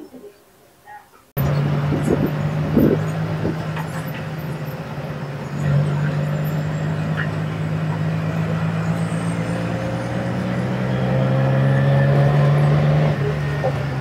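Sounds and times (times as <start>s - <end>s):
vehicle engine humming: 1.2s - 14.0s.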